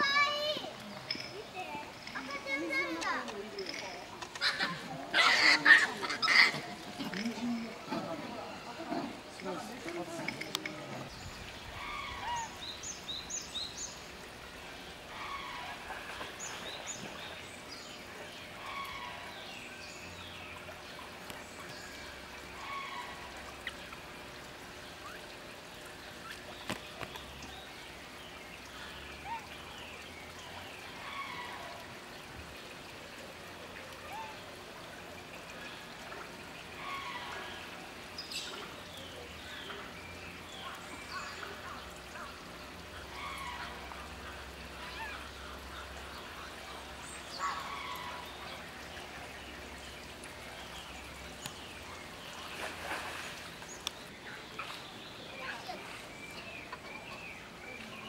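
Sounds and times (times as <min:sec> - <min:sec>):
water trickling from drainpipe: 0:00.0 - 0:58.0.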